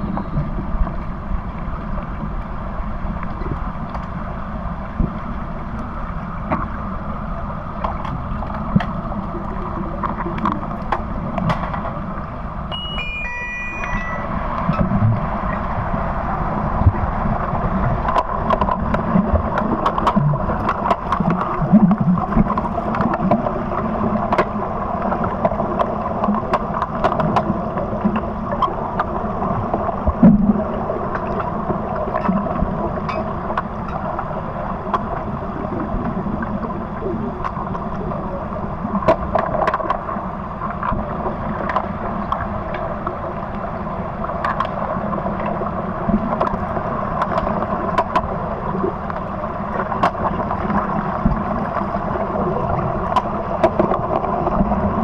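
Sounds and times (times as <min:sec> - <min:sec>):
underwater churning and bubbles: 0:00.0 - 0:55.0.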